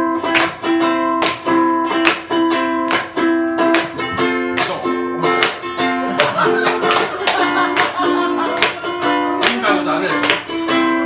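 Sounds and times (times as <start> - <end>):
ukulele strumming chords: 0.0 - 11.0.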